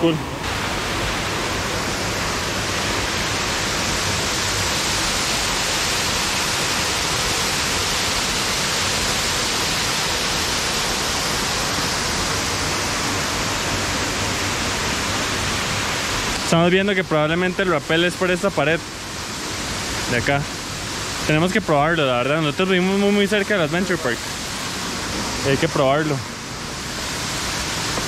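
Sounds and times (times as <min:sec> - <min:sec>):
small waterfall pouring into pool: 0:00.4 - 0:28.0.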